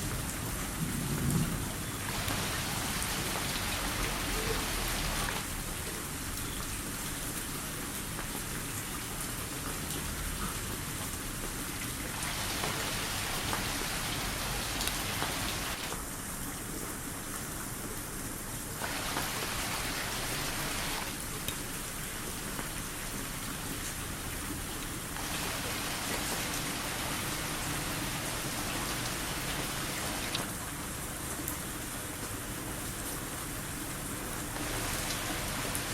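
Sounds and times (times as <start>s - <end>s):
rain splashing on surfaces: 0.0s - 35.9s.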